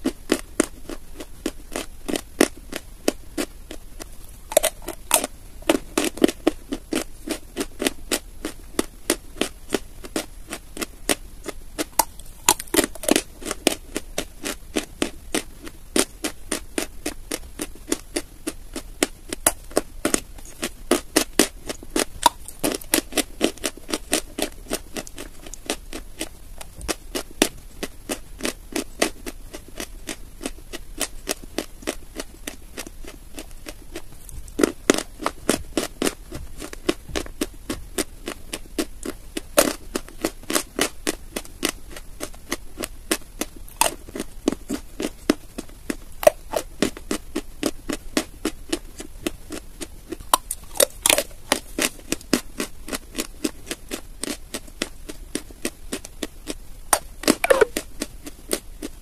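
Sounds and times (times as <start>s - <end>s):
chalk being chewed: 0.0s - 59.0s.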